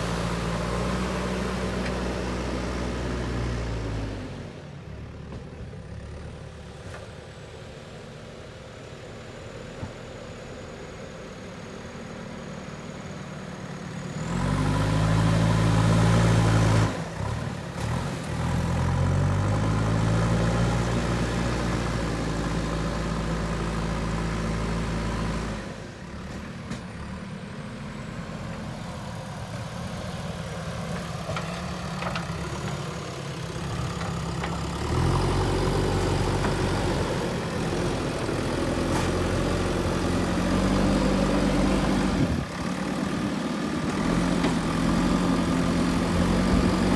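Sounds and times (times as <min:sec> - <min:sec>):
diesel engine revving: 0:00.0 - 0:04.8, 0:13.9 - 0:46.9.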